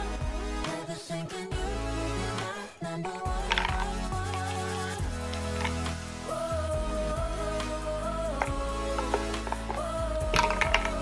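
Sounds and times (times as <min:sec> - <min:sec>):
pop music with singing: 0:00.0 - 0:11.0.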